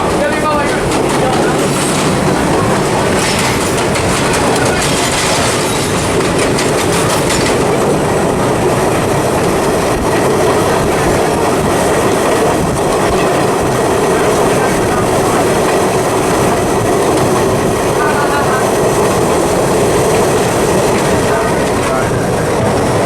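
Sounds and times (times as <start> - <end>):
rail-joint clicks: 0.0 - 23.0
subway train rumbling: 0.0 - 23.0.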